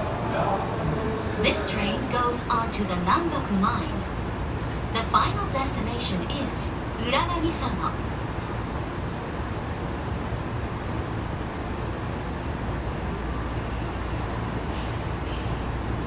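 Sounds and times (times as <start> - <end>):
train wheels and motors rumbling: 0.0 - 16.0.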